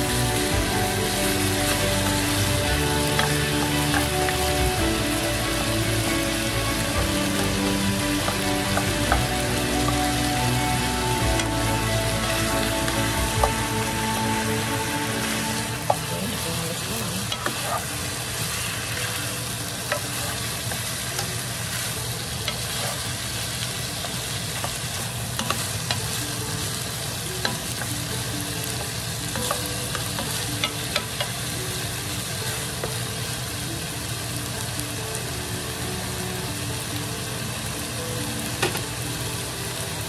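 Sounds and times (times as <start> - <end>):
chicken and onions sizzling in pan: 0.0 - 40.0.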